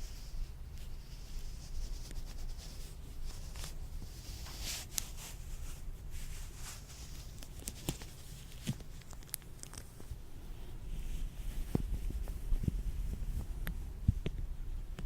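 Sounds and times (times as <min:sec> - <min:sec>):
latex gloves crinkling: 0:00.0 - 0:14.0.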